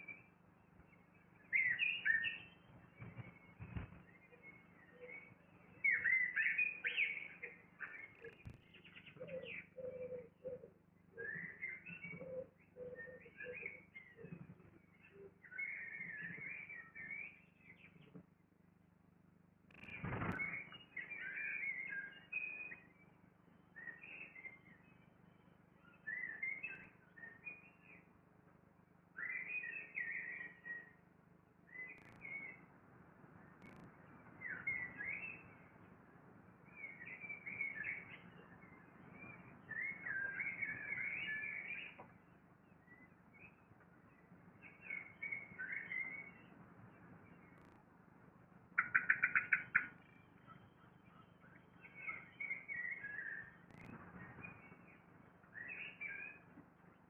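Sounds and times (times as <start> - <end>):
birds chirping: 0.0 - 18.5, 19.7 - 57.0.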